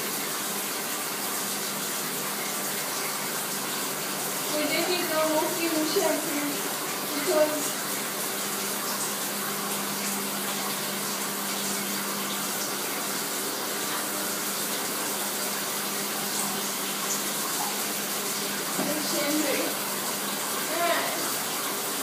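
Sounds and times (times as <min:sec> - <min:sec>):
shower water spraying: 0:00.0 - 0:22.0.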